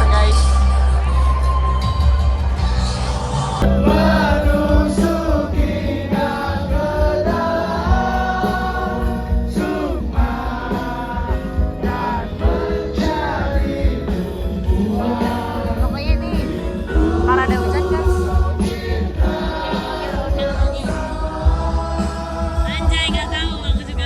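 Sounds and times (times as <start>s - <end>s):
heavy bass: 0.0s - 24.0s
live band music with singing: 0.0s - 24.0s.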